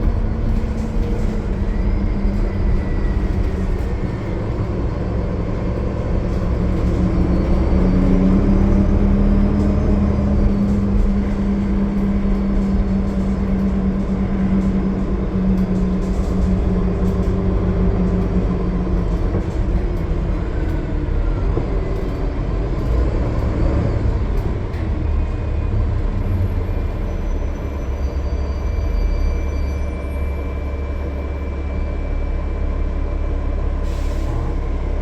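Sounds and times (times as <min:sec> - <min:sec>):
bus engine drone: 0:00.0 - 0:35.0
deep road rumble: 0:00.0 - 0:35.0.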